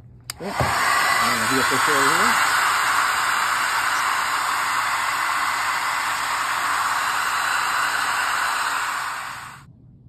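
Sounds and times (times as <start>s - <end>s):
hair dryer running: 0.3s - 9.6s.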